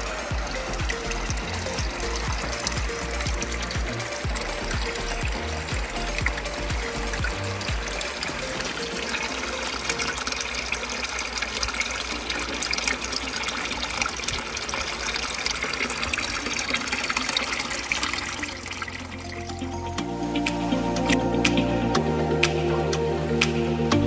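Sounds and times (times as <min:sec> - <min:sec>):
stream splashing: 0:00.0 - 0:21.6.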